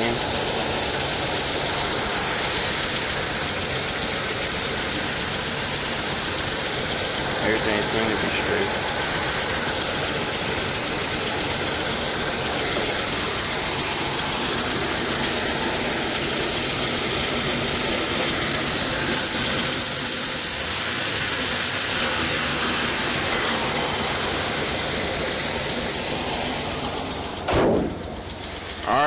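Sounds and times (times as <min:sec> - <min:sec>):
car engine idling: 0:00.0 - 0:29.0
strong even hiss: 0:00.0 - 0:29.0.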